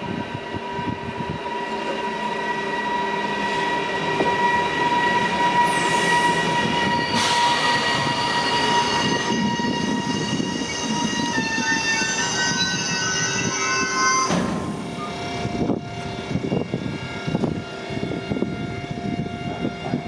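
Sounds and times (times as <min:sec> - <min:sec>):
low train hum: 0:00.0 - 0:20.0
train squealing tones: 0:00.4 - 0:20.0.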